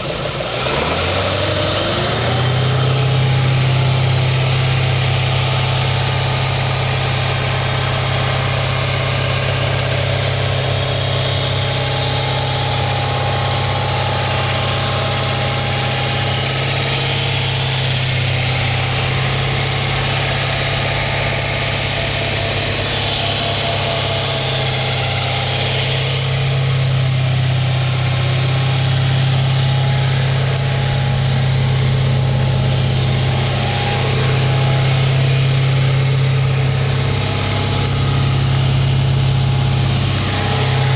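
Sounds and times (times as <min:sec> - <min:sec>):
car engine idling: 0:00.0 - 0:40.9
engine knock: 0:00.0 - 0:40.9.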